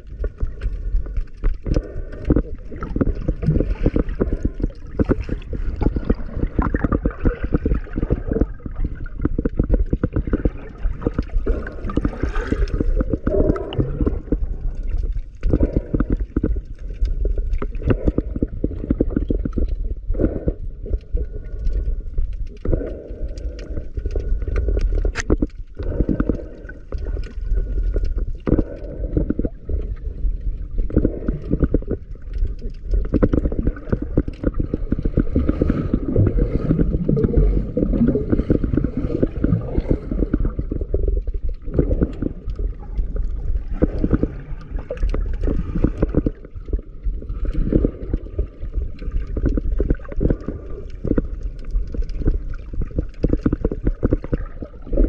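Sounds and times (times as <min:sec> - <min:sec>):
muffled water sloshing and gurgling: 0:00.0 - 0:55.0.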